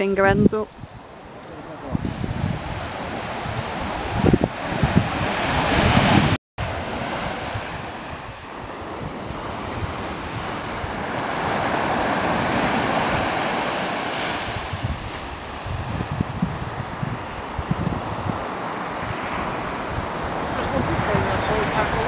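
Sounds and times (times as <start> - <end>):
wind buffeting microphone: 0.0 - 22.0
surf breaking on shore: 0.7 - 22.0.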